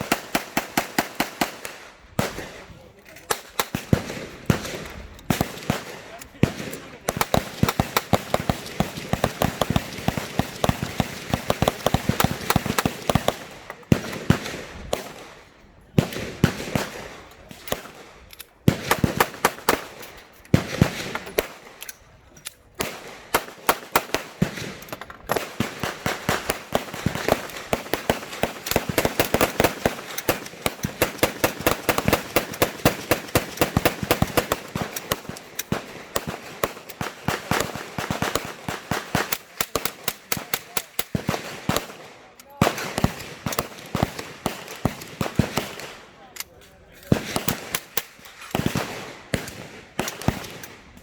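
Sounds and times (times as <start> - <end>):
gunshots: 0.0 - 21.8, 22.8 - 46.3, 47.0 - 50.8.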